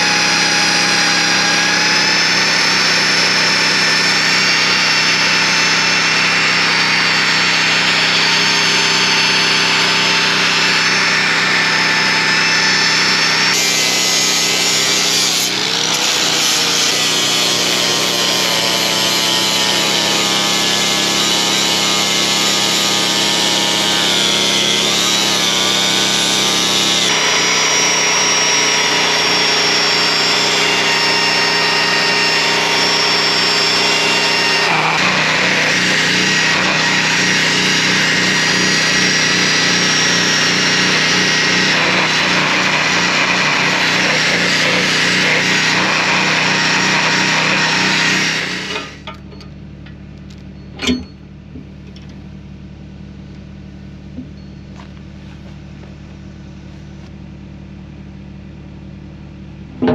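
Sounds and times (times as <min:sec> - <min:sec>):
electric grinder grinding steel: 0:00.0 - 0:49.4.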